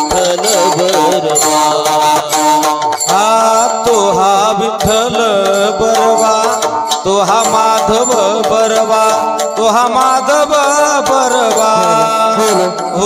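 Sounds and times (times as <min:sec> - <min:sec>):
drum strokes: 0:00.0 - 0:13.0
man singing devotional song: 0:00.0 - 0:13.0.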